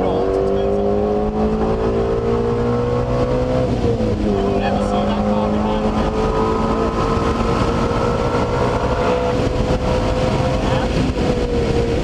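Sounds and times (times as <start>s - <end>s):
car engine under full throttle: 0.0s - 12.0s
wind and road noise: 0.0s - 12.0s.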